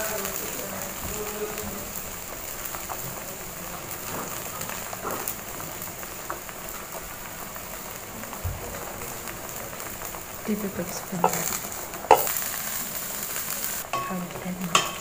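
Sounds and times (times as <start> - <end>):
broth boiling with bubbling hiss: 0.0 - 15.0.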